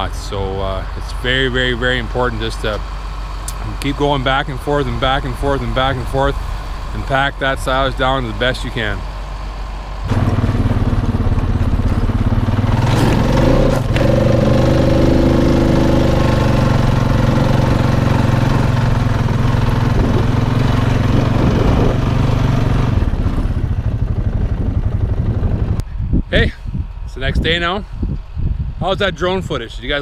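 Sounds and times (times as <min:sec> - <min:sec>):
quad engine running: 0:00.0 - 0:26.4.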